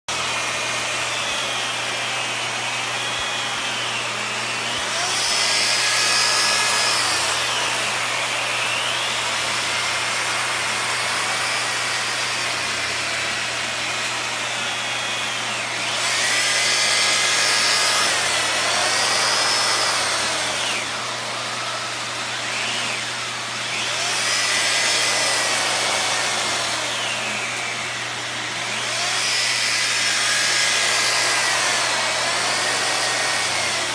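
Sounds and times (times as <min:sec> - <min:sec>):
vacuum cleaner whining: 0:00.1 - 0:33.9.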